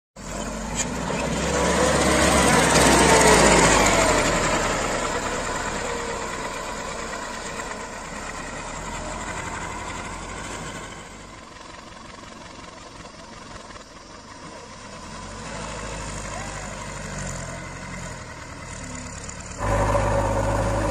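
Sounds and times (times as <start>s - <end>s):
diesel tractor engine running: 0.2s - 20.9s.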